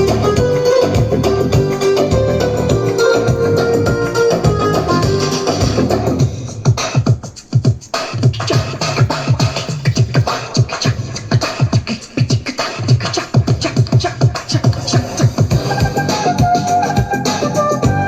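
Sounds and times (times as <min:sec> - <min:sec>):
fast drum beat: 0:00.0 - 0:16.4.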